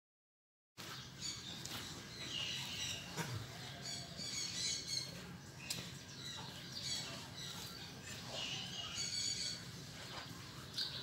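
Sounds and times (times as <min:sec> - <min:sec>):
small birds chirping: 0:00.8 - 0:11.0.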